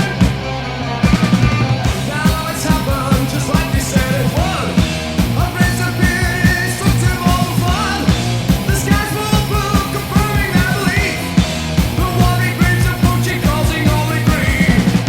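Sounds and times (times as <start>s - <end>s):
heavy metal song: 0.0s - 15.0s
wavering lead guitar melody: 0.0s - 15.0s.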